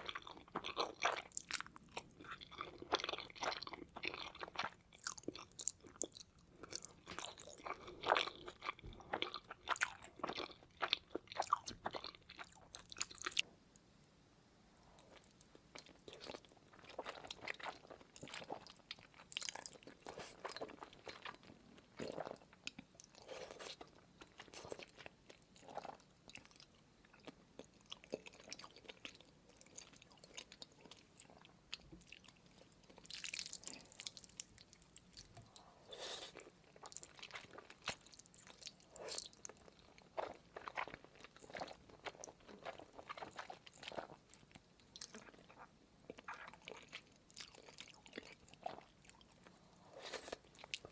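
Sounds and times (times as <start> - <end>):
chewing noodles: 0.0 - 13.4, 15.0 - 50.9.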